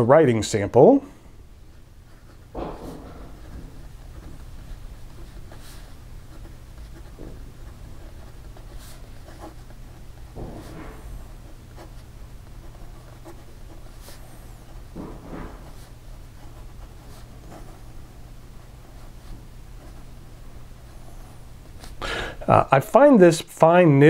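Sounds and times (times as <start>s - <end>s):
steady low hum: 0.0s - 24.0s
fountain pen scratching on paper: 1.7s - 22.0s.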